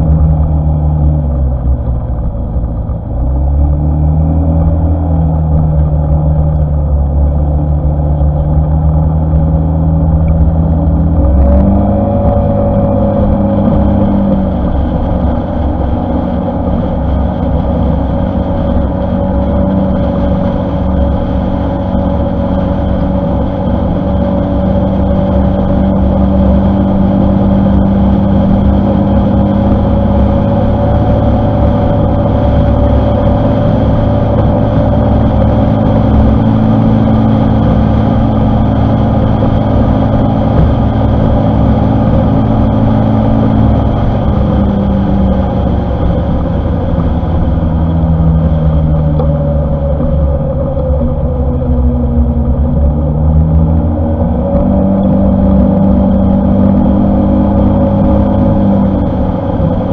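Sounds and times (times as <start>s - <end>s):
scooter engine running: 0.0s - 59.9s.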